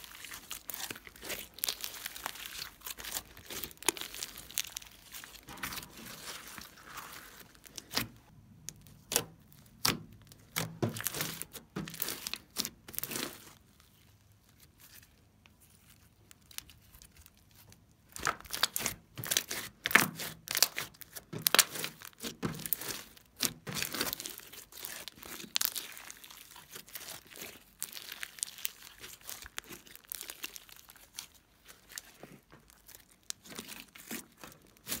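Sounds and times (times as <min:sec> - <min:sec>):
slime squishing with sticky clicks: 0:00.0 - 0:13.7, 0:16.0 - 0:35.0.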